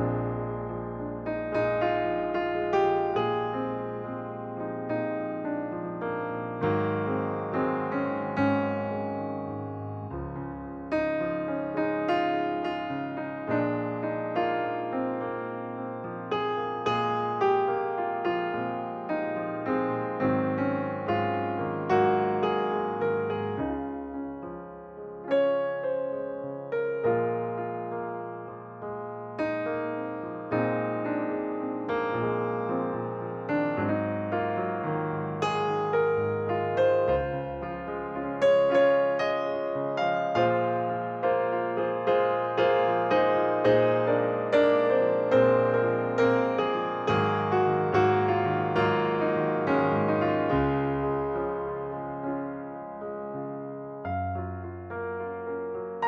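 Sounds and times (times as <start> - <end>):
slow piano chords: 0.0 - 56.0.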